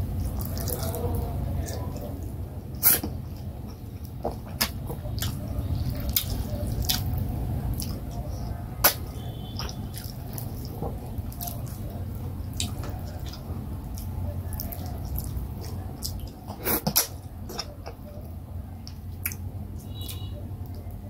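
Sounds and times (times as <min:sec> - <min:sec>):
wet chewing and smacking: 0:00.0 - 0:21.0.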